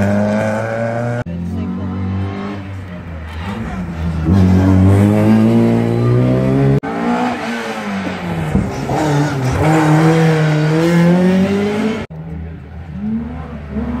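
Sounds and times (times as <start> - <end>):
rally car accelerating away: 0.0 - 14.0
rally car engines at full throttle: 0.0 - 14.0.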